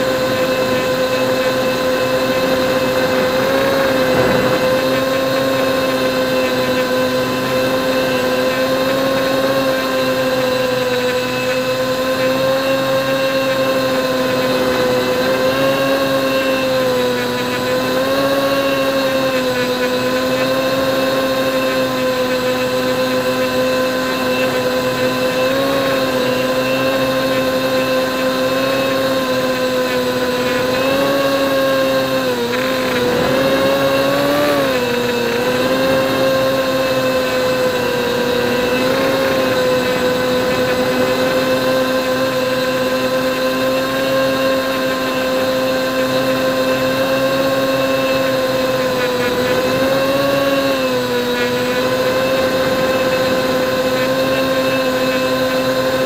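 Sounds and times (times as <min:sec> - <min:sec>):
drone propellers droning: 0:00.0 - 0:56.0.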